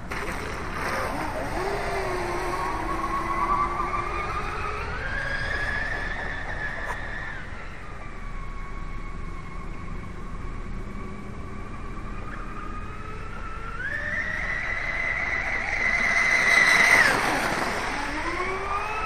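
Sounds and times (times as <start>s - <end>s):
electric boat motors whining: 0.0s - 19.0s.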